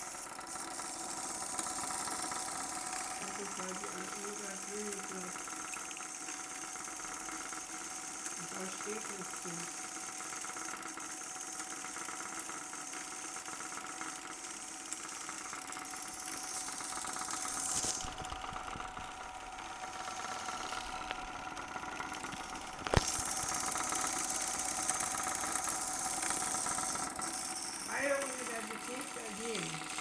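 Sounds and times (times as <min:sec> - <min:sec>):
fast ticking film mechanism: 0:00.0 - 0:30.0
film projector motor hum: 0:00.0 - 0:30.0.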